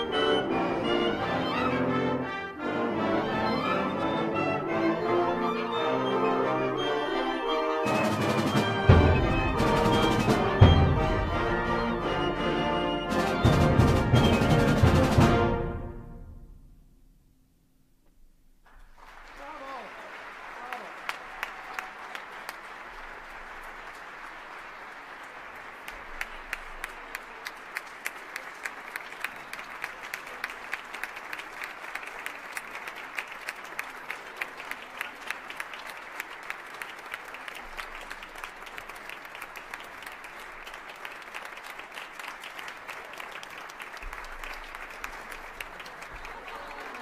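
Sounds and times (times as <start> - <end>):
audience applauding: 0.0 - 15.6, 18.6 - 47.0.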